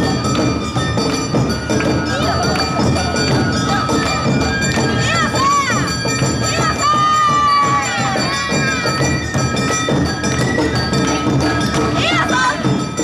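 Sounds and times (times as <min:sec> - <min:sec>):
bamboo flute melody: 0:00.0 - 0:13.0
drumming: 0:00.0 - 0:13.0.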